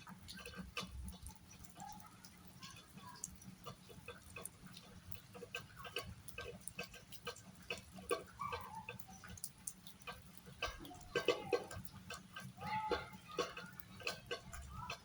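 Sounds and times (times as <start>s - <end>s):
rain dripping on hard surfaces: 0.0s - 15.0s.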